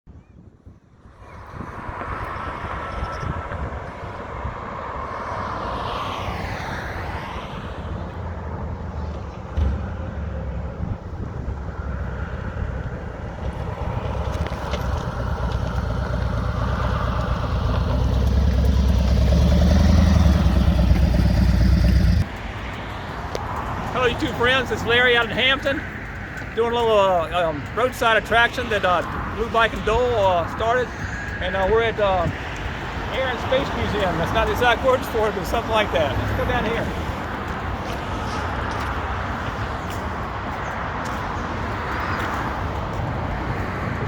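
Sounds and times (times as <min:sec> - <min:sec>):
passing motor vehicles rumbling: 0:00.8 - 0:44.0.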